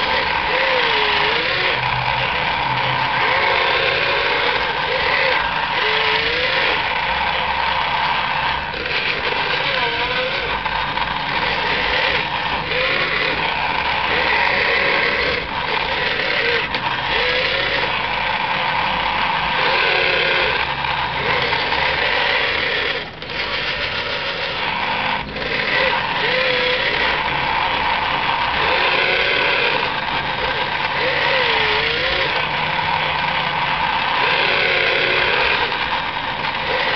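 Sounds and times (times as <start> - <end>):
steady mechanical hum: 0.0 - 36.9
toy electric motors whining: 0.0 - 36.9.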